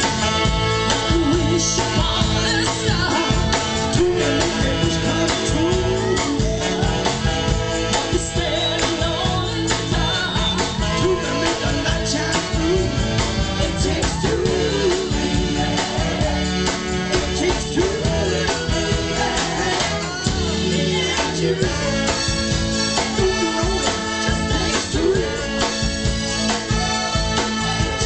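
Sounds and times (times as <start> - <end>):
live soul band playing: 0.0 - 28.0.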